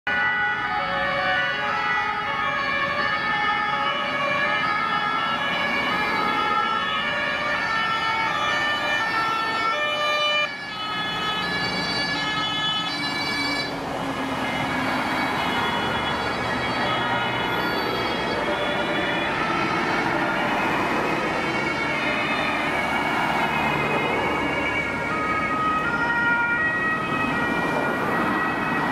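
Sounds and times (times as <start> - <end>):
two-tone emergency sirens: 0.1 - 28.9
vehicles driving by: 0.1 - 28.9.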